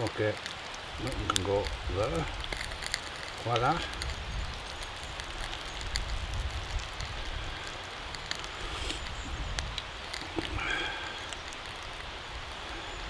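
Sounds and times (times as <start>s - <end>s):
campfire hissing and crackling: 0.0s - 13.0s.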